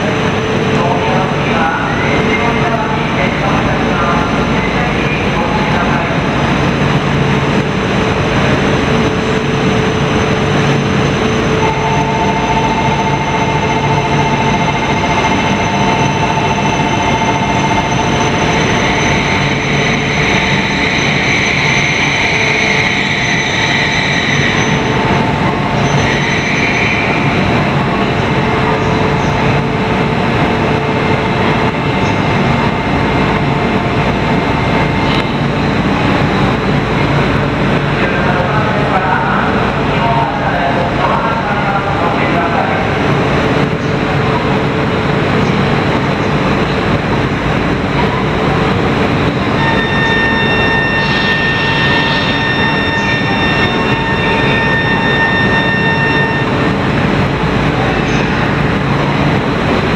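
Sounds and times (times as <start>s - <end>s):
train rumbling: 0.0s - 59.9s
train whining tones: 0.0s - 59.9s
train squealing: 7.4s - 43.1s, 45.4s - 59.9s.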